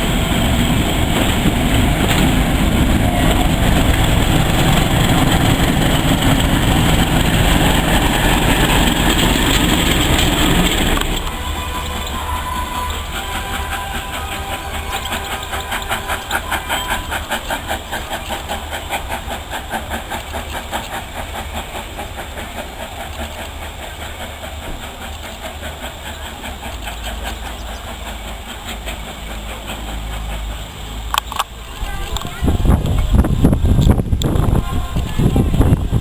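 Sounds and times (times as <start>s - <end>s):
steam train running: 0.0s - 36.0s.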